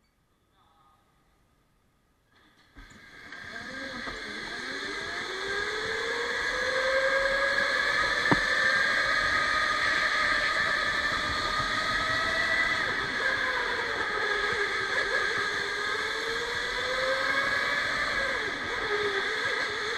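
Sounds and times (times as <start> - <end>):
electric go-kart motor whining: 2.4 - 19.9.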